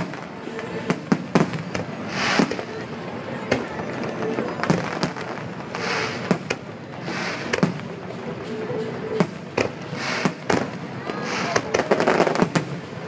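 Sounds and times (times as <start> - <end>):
fireworks bangs: 0.0 - 13.0
fireworks crackling fizz: 0.0 - 13.0.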